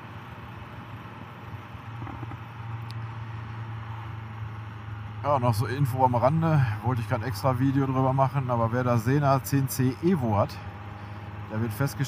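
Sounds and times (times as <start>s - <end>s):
wind and road noise: 0.0s - 12.0s
motorcycle engine cruising: 0.1s - 12.0s.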